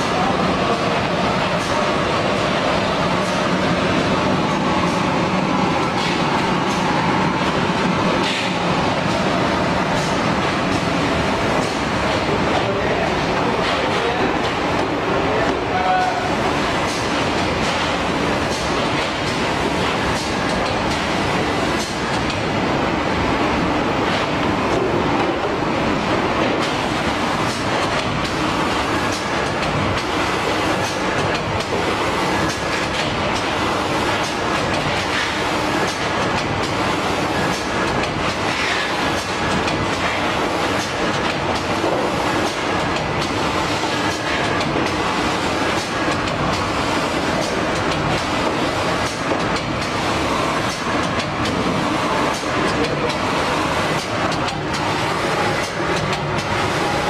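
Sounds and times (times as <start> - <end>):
machine mechanical whir: 0.0 - 57.0.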